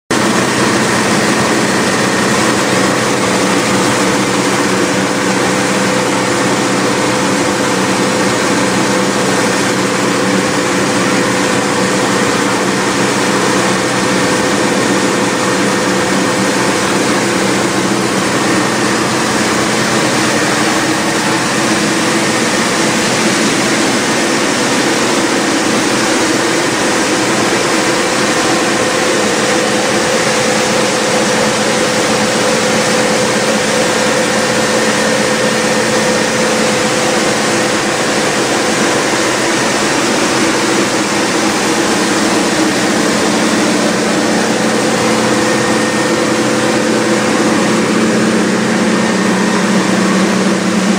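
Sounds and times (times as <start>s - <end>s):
sorting machine mechanical din: 0.1s - 50.9s.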